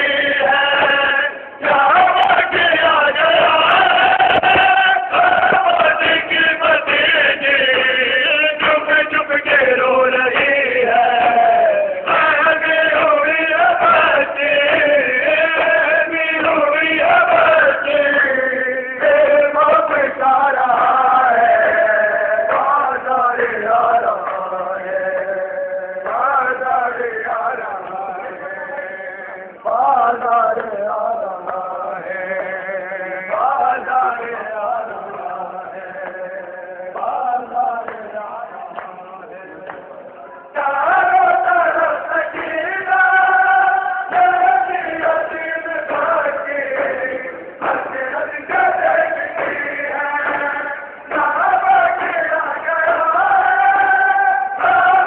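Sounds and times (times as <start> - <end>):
crowd of men chanting: 0.0 - 55.0.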